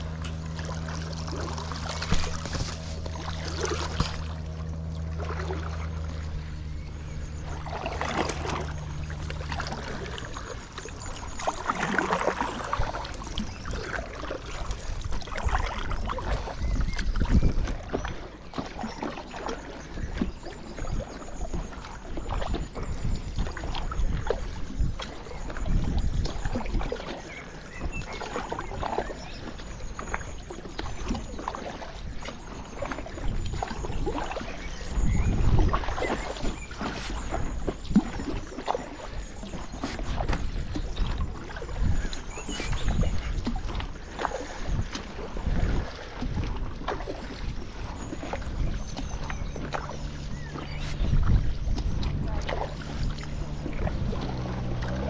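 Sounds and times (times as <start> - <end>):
low steady hum: 0.0 - 55.0
paddle splashing in water: 0.0 - 55.0.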